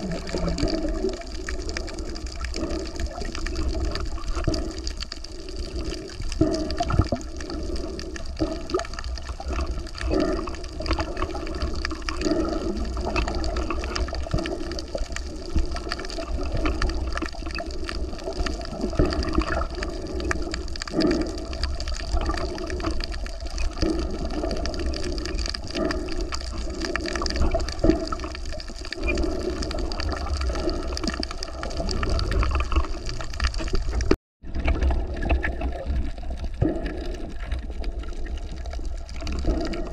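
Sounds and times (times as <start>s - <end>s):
seawater sloshing and gurgling: 0.0s - 39.9s
small clicks and splashes: 0.0s - 39.9s.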